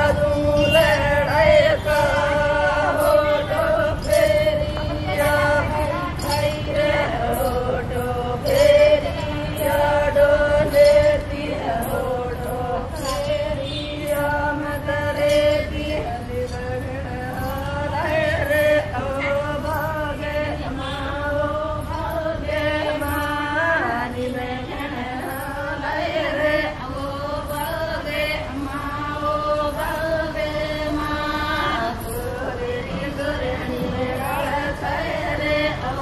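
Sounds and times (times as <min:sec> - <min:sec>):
women singing folk song: 0:00.0 - 0:36.0.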